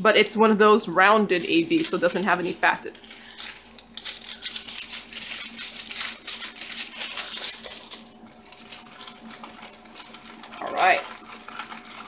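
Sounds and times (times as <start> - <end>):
plastic packaging crinkling: 0.7 - 12.0.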